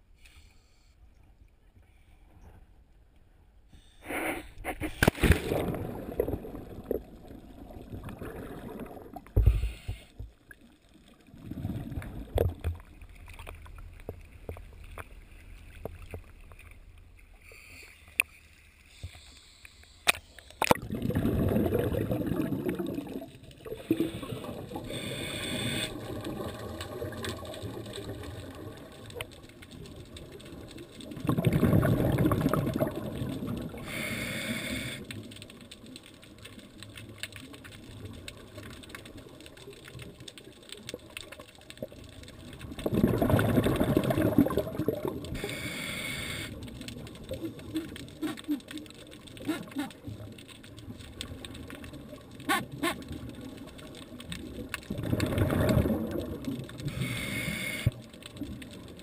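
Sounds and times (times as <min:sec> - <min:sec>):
rush of bubbles: 0:04.0 - 0:09.8, 0:10.4 - 0:16.6, 0:20.6 - 0:59.0
water splashing and sloshing: 0:04.0 - 0:34.1, 0:35.0 - 0:45.9, 0:46.5 - 0:59.0
underwater gurgling and bubbling: 0:05.0 - 0:10.3, 0:11.1 - 0:16.6, 0:20.6 - 0:59.0.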